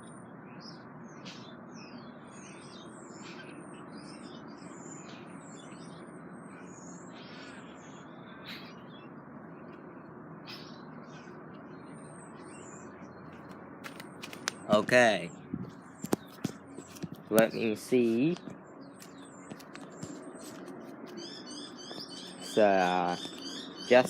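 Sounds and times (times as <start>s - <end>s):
small birds chirping: 0.0s - 24.0s
steady background noise: 0.0s - 24.0s.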